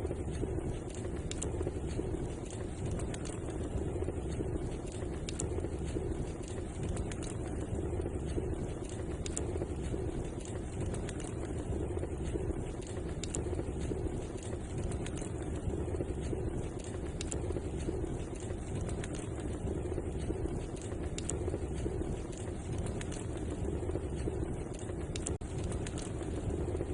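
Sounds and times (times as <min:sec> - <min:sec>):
fire crackling and popping: 0:00.0 - 0:26.9
low rushing of fire: 0:00.0 - 0:26.9.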